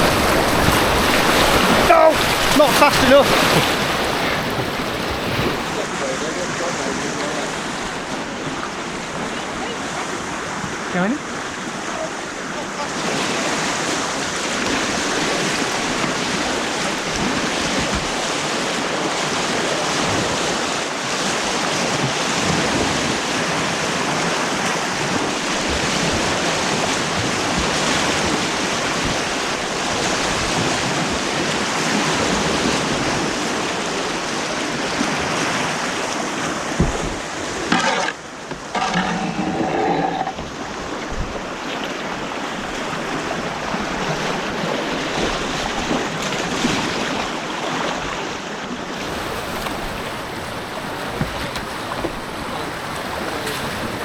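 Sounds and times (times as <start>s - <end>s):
white-water rapids rushing: 0.0s - 54.0s.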